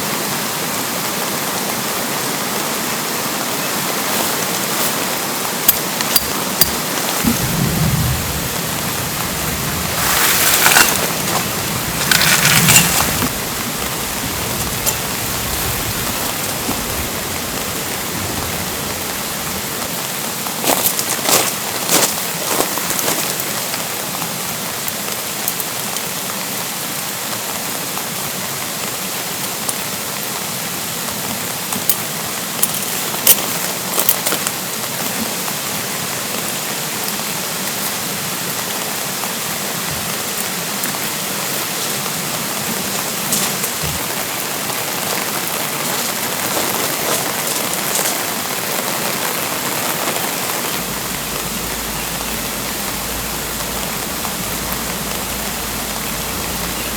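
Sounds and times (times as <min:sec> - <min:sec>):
rain falling: 0:00.0 - 0:56.9
stream running: 0:00.0 - 0:56.9.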